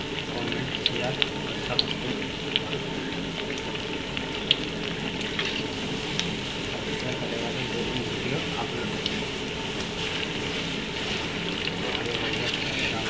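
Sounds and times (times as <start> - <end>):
fritters deep-frying in oil: 0.0 - 13.0
oil popping and crackling: 0.0 - 13.0.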